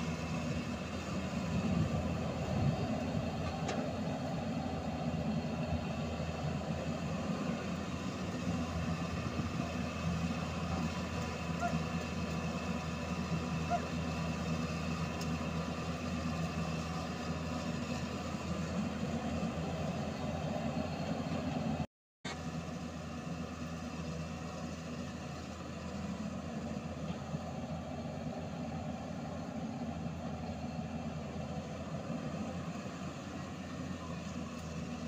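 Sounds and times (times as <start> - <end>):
excavator diesel engine running: 0.0 - 35.0
tipper truck engine running: 0.0 - 35.0.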